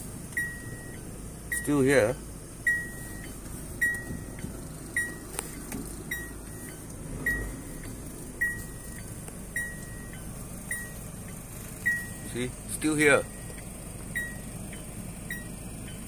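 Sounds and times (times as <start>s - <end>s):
car warning chime beeping: 0.0s - 16.0s
low vehicle rumble: 0.0s - 16.0s.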